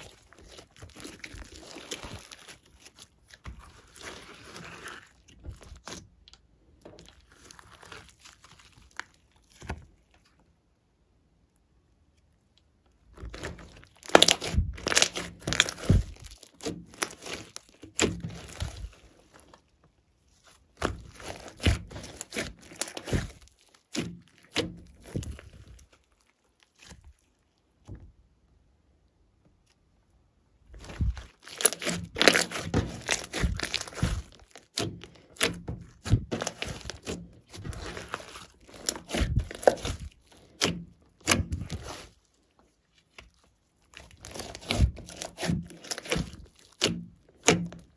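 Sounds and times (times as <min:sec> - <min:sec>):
hands squishing slime: 0:00.0 - 0:10.4, 0:12.7 - 0:27.8, 0:30.6 - 0:47.9.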